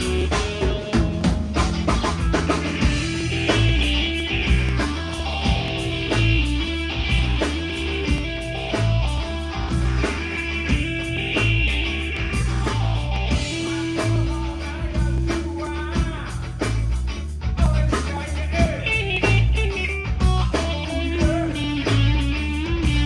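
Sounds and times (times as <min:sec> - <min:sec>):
bass guitar: 0:00.0 - 0:23.0
electric guitar with bending notes: 0:00.0 - 0:23.0
rock drums: 0:00.0 - 0:23.0.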